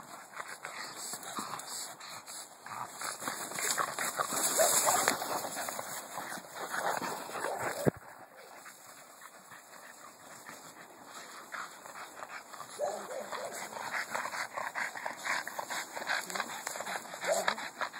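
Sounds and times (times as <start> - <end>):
dogs panting and whimpering: 0.0 - 17.9
scuffling noises: 0.3 - 17.9.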